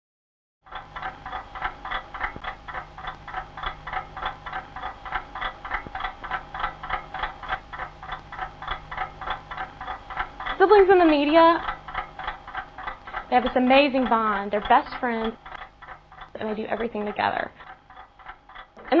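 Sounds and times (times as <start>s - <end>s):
faint low hum: 0.8s - 19.0s.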